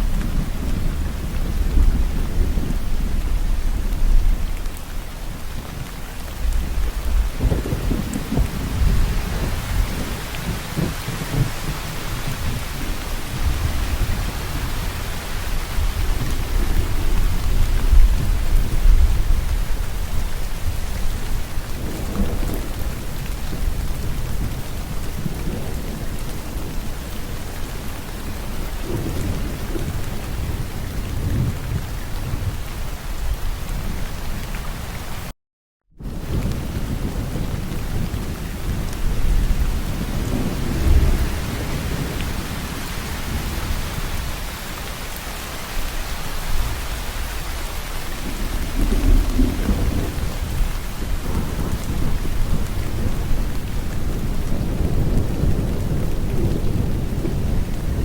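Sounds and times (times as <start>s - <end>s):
rolling thunder: 0.0s - 34.1s, 36.0s - 58.0s
heavy rain: 0.0s - 35.3s, 36.0s - 58.0s.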